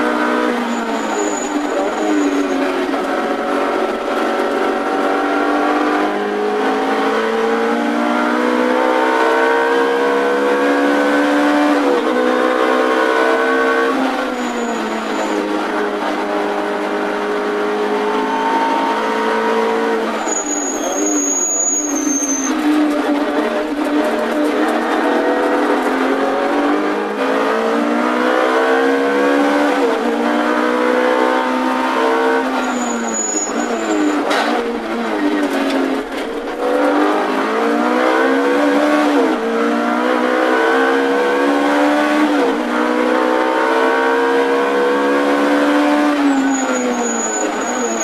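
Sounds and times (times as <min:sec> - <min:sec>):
race car engine shifting gears: 0:00.0 - 0:48.0.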